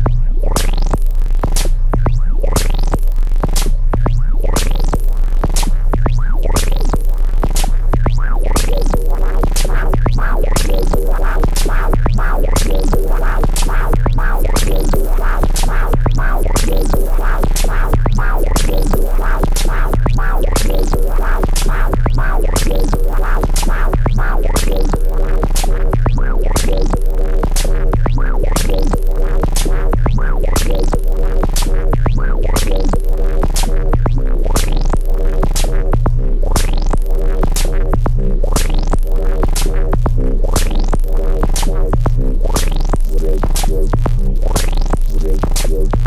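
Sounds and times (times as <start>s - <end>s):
drum machine beat: 0.0s - 46.0s
synth sequence: 6.3s - 46.0s.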